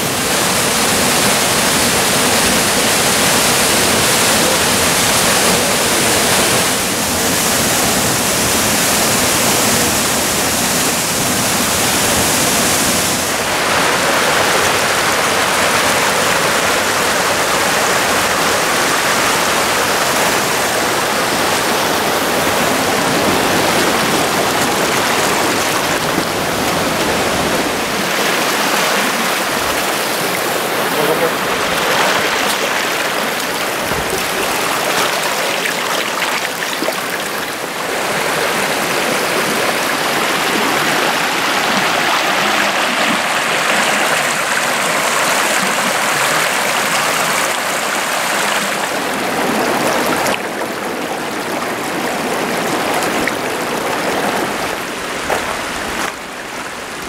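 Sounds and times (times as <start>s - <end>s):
rocky creek rushing: 0.0s - 57.0s
waterfall rushing into pool: 0.0s - 57.0s.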